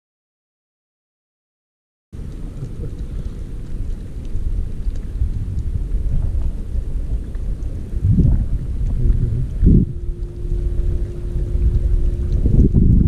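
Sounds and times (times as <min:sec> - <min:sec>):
wind buffeting microphone: 0:02.2 - 0:13.0.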